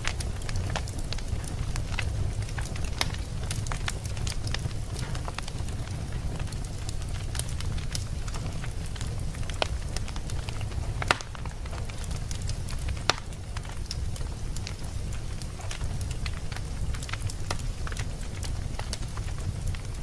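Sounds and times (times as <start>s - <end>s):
low rumble of fire: 0.0s - 20.0s
wood fire crackling and popping: 0.0s - 20.0s.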